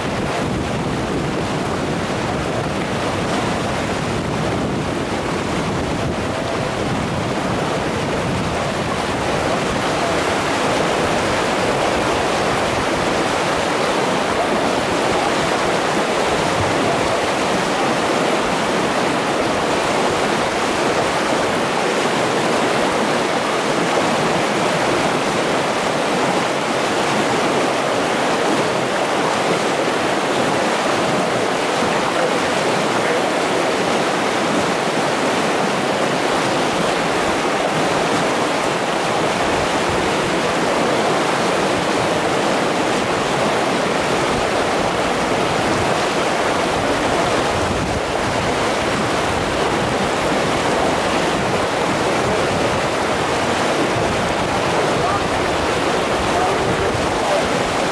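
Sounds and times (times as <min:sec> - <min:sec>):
river rapids rushing over rocks: 0:00.0 - 0:57.9.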